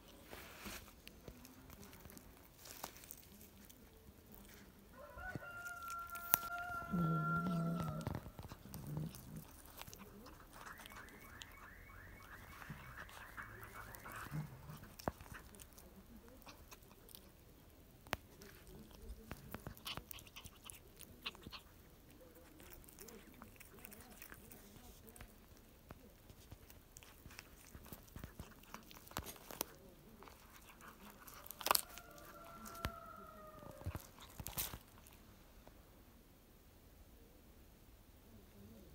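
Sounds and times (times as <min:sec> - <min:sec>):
cat chewing with wet crunches: 0:00.0 - 0:35.8.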